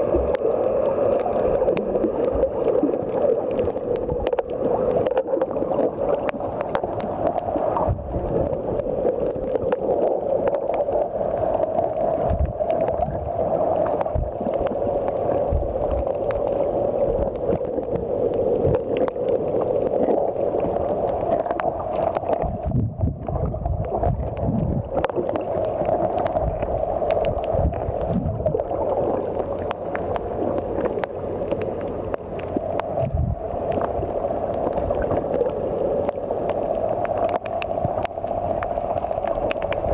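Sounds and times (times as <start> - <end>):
underwater rushing and gurgling: 0.0 - 39.9.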